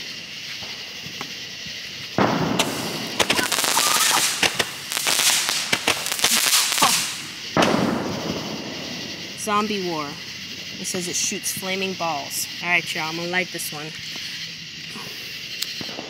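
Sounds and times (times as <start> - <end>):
firework hissing and crackling: 0.0 - 16.0.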